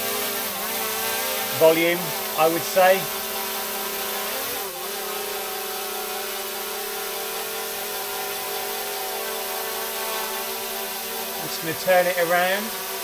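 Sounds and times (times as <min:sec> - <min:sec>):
camera drone hovering: 0:00.0 - 0:12.8.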